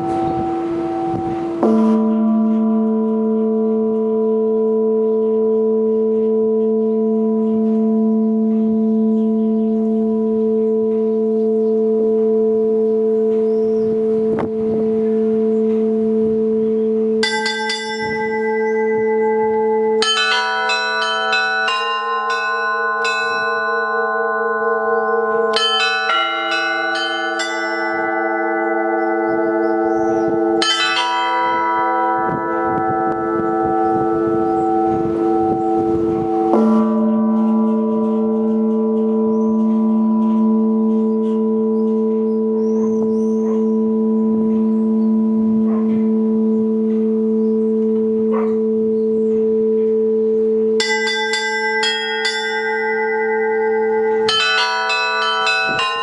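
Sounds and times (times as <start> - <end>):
deep bell strike: 0.0 - 56.0
large church bell humming: 0.0 - 56.0
small high bells striking: 0.0 - 56.0.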